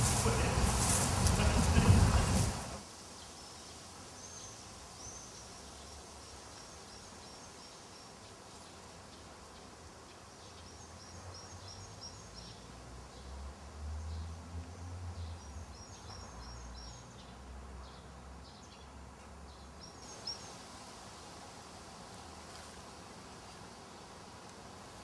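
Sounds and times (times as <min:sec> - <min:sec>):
small birds chirping: 0:00.0 - 0:13.4, 0:14.0 - 0:20.8.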